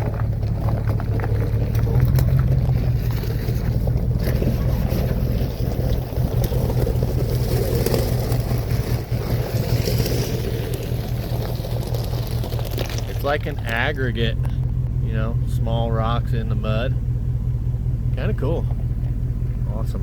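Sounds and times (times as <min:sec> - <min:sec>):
truck engine droning: 0:00.0 - 0:20.0
tyres on gravel: 0:00.0 - 0:20.0.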